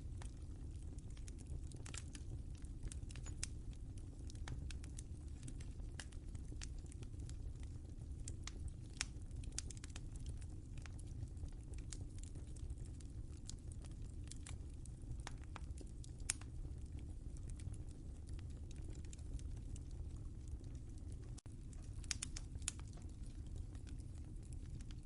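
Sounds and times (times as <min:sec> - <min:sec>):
fire popping and snapping: 0:00.0 - 0:25.0
fire rumbling: 0:00.0 - 0:25.0.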